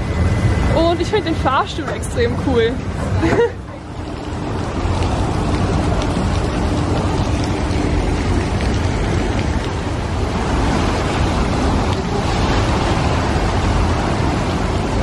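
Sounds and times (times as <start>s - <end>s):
churning water rushing: 0.0s - 15.0s
wind rumbling on microphone: 0.0s - 15.0s.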